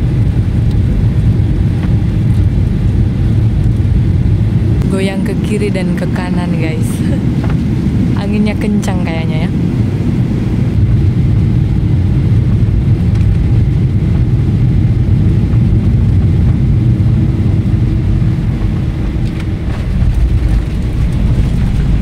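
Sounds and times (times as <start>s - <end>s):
jet engine and airflow rumble: 0.0s - 22.0s
steady hum: 0.0s - 22.0s.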